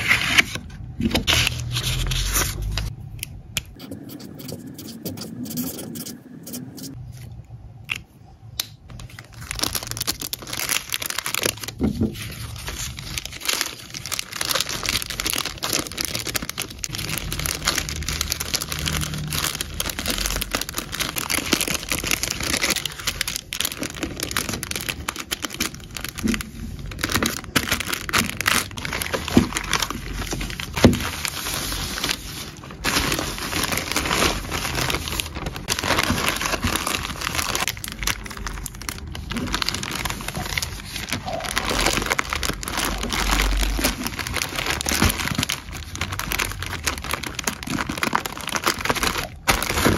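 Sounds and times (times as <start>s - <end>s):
plastic packaging crinkling: 8.9s - 49.9s.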